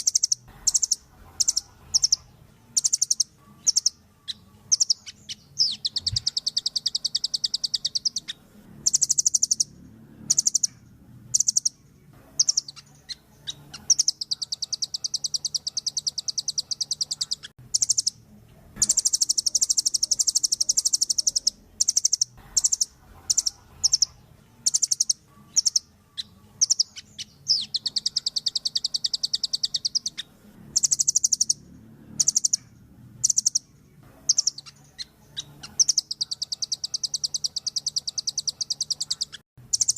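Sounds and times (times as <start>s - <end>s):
bird singing high trills: 0.0s - 18.2s, 18.8s - 39.9s.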